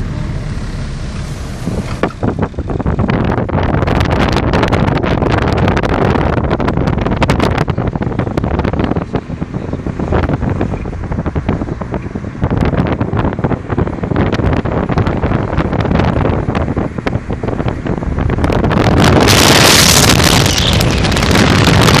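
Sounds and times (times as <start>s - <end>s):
road noise: 0.0s - 22.0s
wind buffeting microphone: 1.3s - 22.0s.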